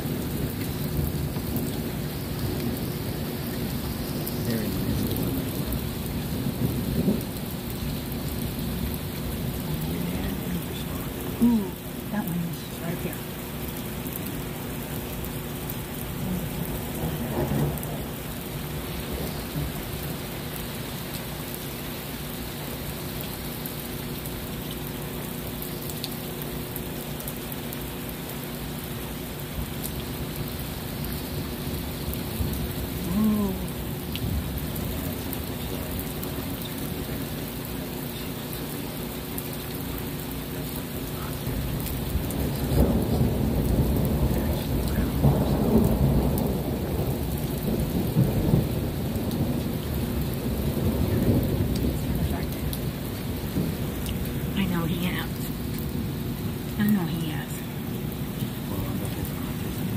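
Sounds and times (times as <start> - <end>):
thunder rumbling: 0.0 - 22.2, 27.4 - 38.8, 40.2 - 59.9
steady rain falling: 0.0 - 59.9.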